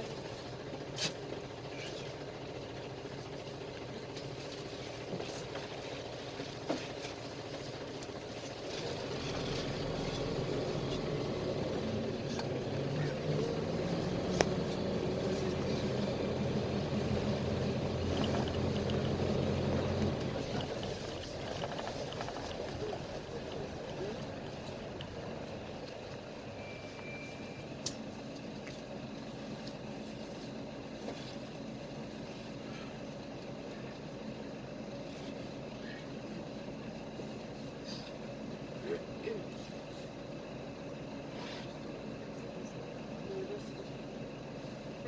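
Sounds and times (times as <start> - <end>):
bus engine drone: 0.0 - 45.0
road noise: 0.0 - 45.0.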